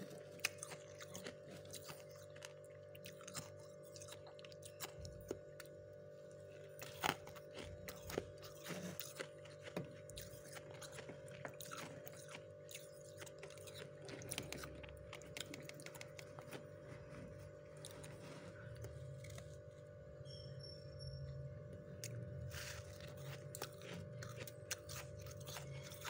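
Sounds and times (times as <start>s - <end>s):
frost crunching: 0.0s - 20.0s, 22.0s - 26.0s
freezer low hum: 0.0s - 26.0s.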